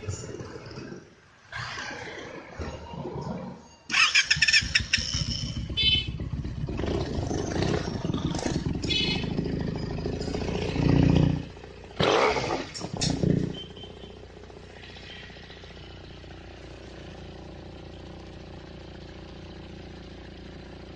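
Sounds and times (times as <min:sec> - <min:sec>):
motorcycle engine starting: 0:02.4 - 0:20.9
motorcycle engine revving: 0:03.9 - 0:20.9.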